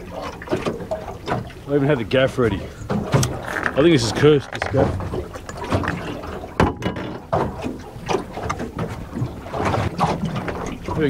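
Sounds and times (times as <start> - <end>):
waves slapping a boat hull: 0.0 - 11.0.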